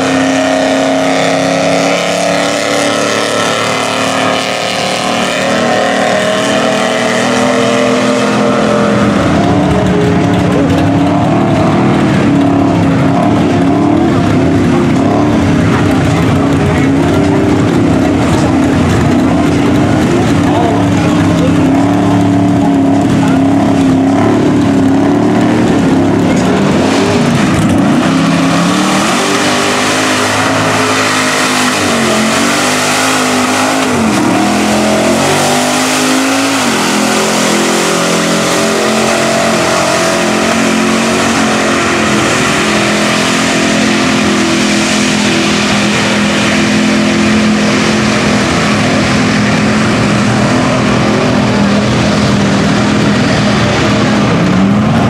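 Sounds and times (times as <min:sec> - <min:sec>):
tires churning through mud: 0:00.0 - 0:55.0
truck engines revving: 0:00.0 - 0:55.0.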